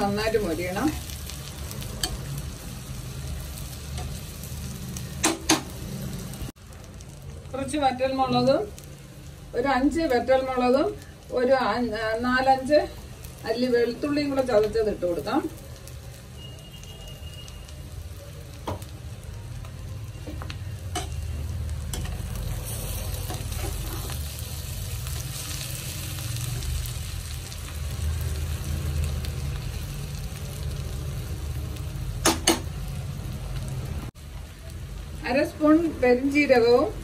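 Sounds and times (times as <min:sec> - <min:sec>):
chicken sizzling in a pan: 0:00.0 - 0:37.0.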